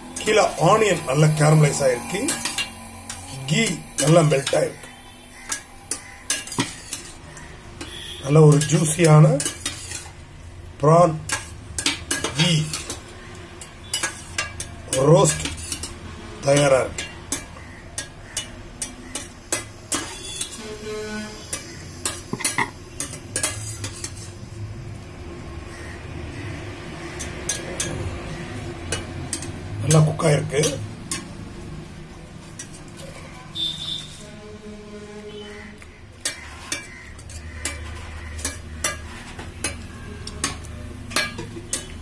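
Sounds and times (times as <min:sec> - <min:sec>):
metal spoon scraping pot: 0:00.0 - 0:10.2, 0:11.0 - 0:24.4, 0:27.1 - 0:31.4, 0:35.0 - 0:42.0.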